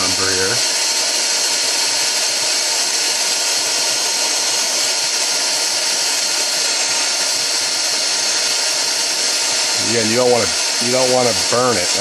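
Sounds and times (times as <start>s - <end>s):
heat gun fan hissing: 0.0s - 12.0s.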